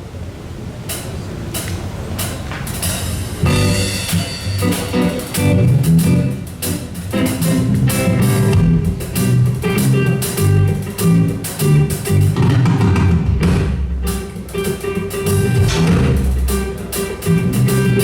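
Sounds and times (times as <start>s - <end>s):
low bass notes: 3.4s - 18.0s
strummed guitar: 3.4s - 18.0s.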